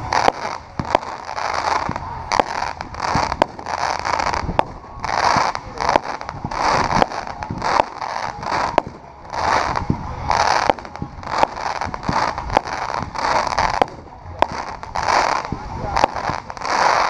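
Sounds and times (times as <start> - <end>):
crackling of bursting stars: 0.0 - 17.0
fireworks shots: 0.0 - 17.0.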